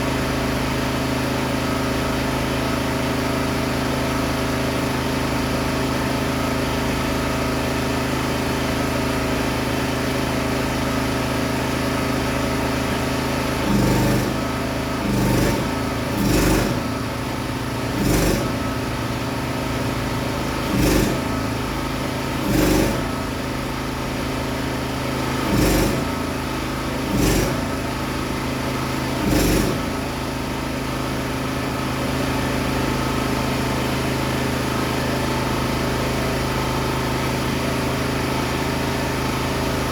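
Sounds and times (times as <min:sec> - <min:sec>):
engine running with surges: 0:00.0 - 0:39.9.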